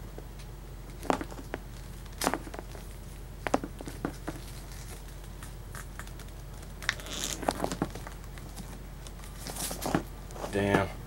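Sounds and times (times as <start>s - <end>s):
steady low hum: 0.0s - 11.0s
clicks and rustles of handling: 0.4s - 10.9s.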